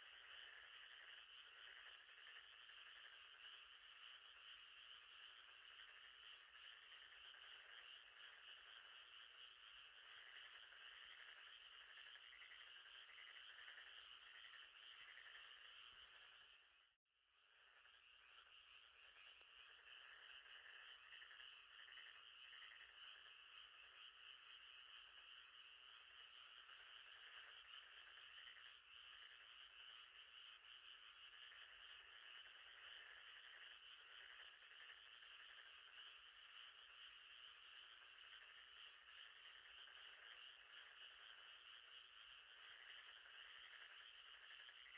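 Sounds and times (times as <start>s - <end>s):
frogs trilling: 0.0s - 44.9s.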